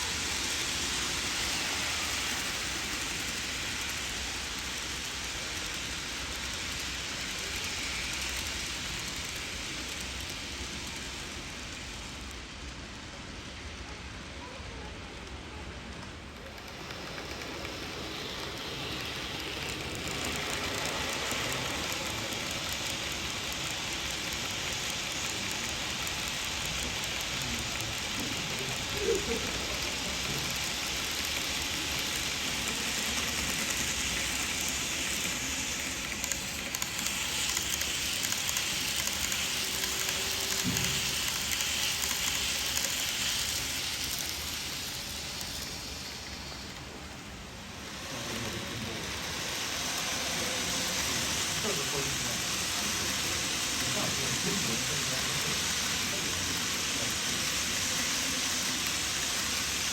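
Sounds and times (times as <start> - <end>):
model train wheels rattling on rail: 0.0 - 59.9.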